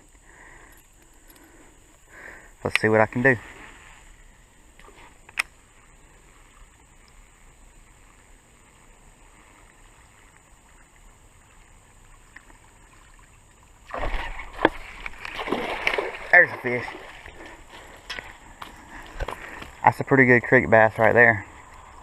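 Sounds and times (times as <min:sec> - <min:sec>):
creek water flowing: 0:00.0 - 0:22.0.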